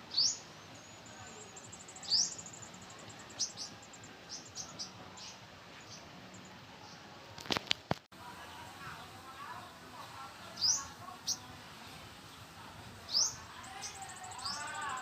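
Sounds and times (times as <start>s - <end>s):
small birds chirping: 0.0s - 7.6s, 10.2s - 15.0s.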